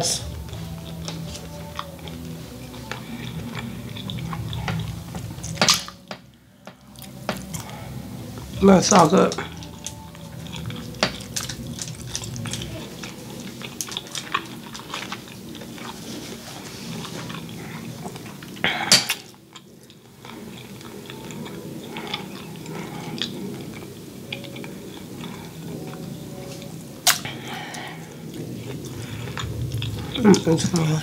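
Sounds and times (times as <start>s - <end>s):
chewing meat: 0.0s - 31.0s.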